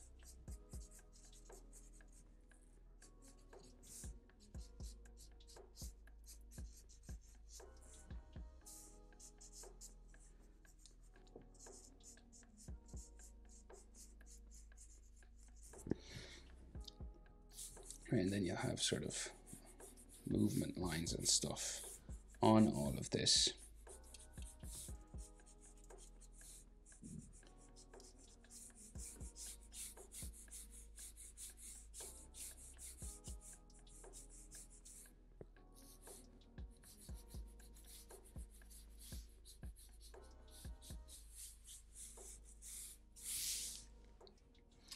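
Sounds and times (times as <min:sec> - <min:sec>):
marker pen scratching on paper: 0:00.0 - 0:02.2, 0:03.0 - 0:16.4, 0:17.5 - 0:35.1, 0:35.8 - 0:43.8.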